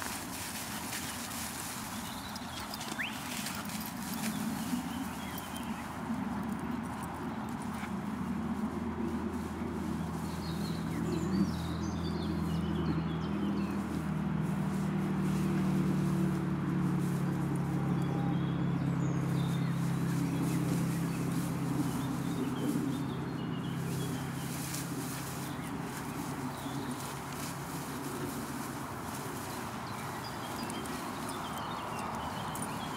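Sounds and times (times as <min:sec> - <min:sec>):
low motor drone: 0:04.2 - 0:32.9.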